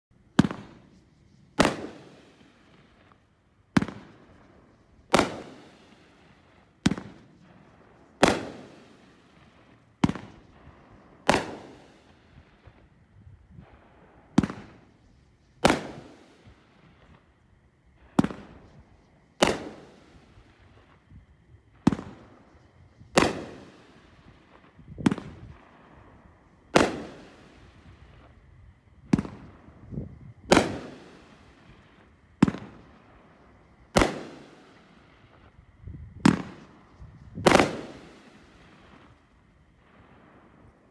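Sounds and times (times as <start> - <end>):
firework shells firing with echo: 0.3 - 17.3, 18.0 - 39.3.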